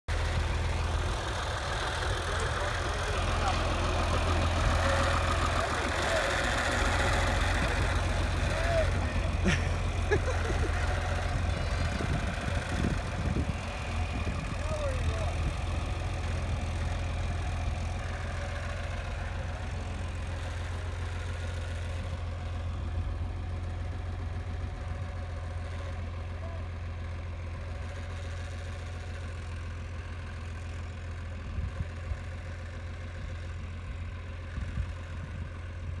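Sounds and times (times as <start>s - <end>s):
tractor engine droning: 0.1s - 36.0s.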